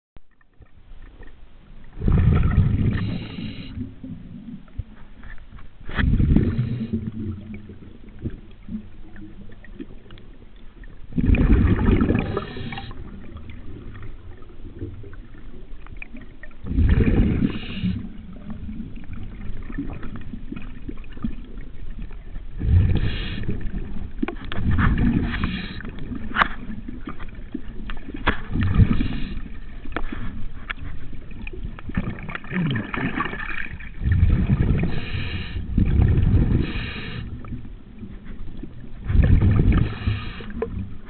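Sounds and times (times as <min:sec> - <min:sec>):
underwater exhaled bubbles rushing: 0:01.8 - 0:05.0, 0:05.9 - 0:41.0.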